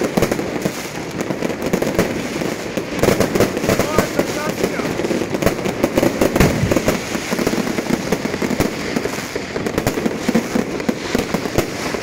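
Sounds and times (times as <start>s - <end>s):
firecrackers banging and crackling: 0.0s - 12.0s.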